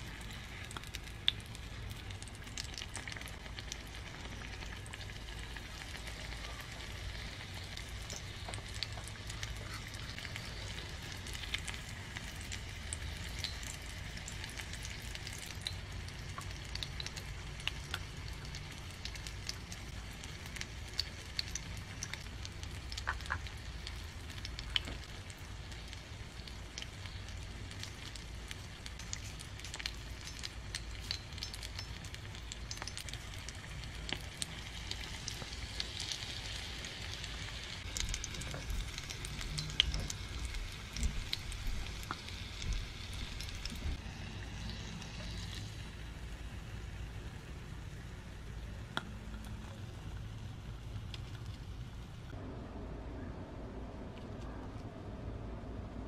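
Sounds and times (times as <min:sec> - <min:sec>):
food sizzling in a pan: 0:00.0 - 0:52.1.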